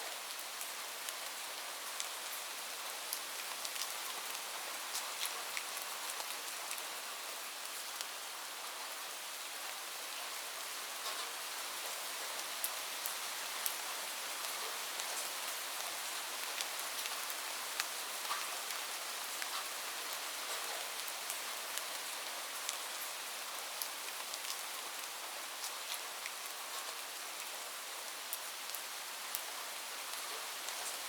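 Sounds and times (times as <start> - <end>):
light rain falling: 0.0 - 31.0.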